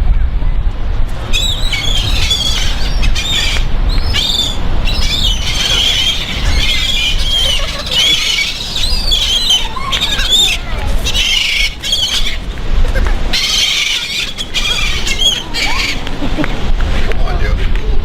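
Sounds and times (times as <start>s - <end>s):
steady low rumble: 0.0s - 18.0s
seagulls squawking: 1.2s - 16.5s.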